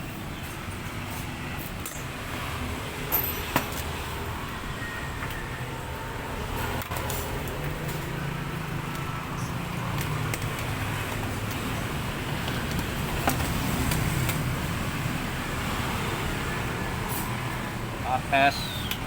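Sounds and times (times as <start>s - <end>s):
passing traffic rumble: 0.0s - 19.0s.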